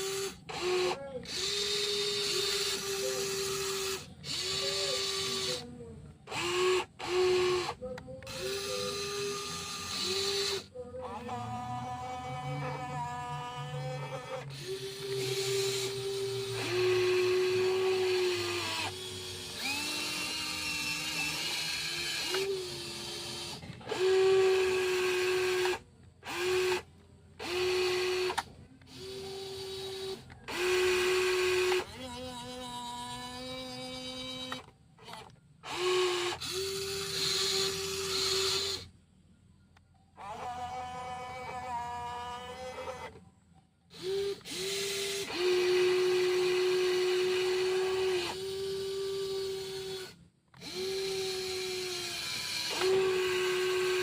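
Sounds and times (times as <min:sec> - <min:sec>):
toy excavator motors whining: 0:00.0 - 0:54.0.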